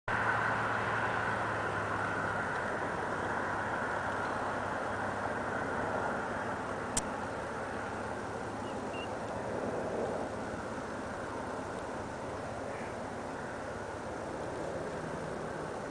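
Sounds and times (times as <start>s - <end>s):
distant jet engines roaring: 0.1s - 15.9s.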